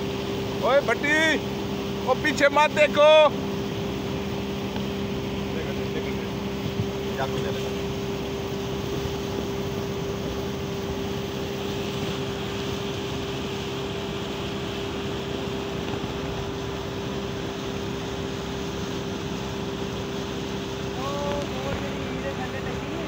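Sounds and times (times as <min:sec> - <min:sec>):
motorboat engine running: 0:00.0 - 0:23.0
rush of wind and water: 0:00.0 - 0:23.0.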